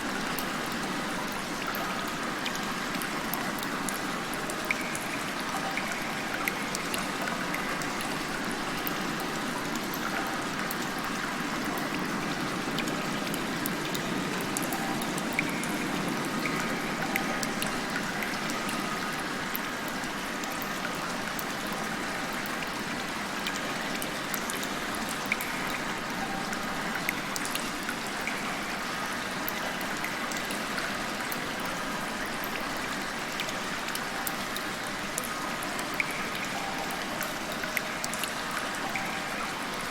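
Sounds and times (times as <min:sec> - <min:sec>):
rain falling and trickling water: 0:00.0 - 0:39.9
water drips: 0:00.0 - 0:39.9.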